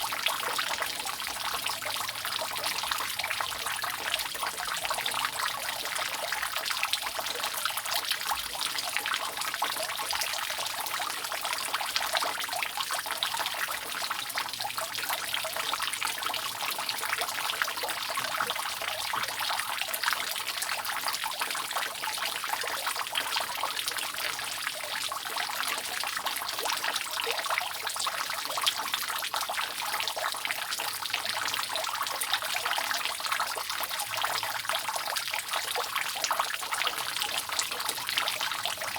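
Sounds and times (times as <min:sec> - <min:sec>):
rainwater dripping off roof: 0:00.0 - 0:38.9.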